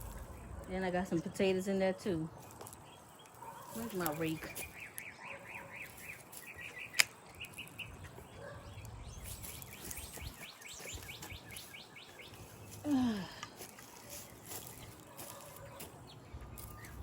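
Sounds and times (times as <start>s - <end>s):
birds chirping and trilling: 0.0s - 17.0s.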